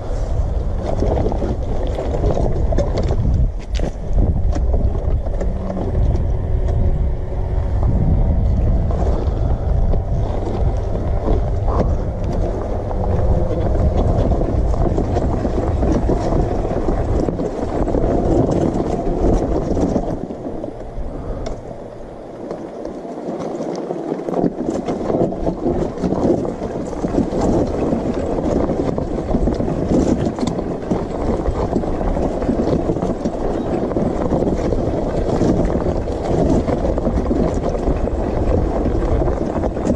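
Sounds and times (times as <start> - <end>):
dirt bike engine running: 0.0 - 39.9
rattling clatter from rough ground: 0.0 - 39.9
wind rush: 0.0 - 39.9.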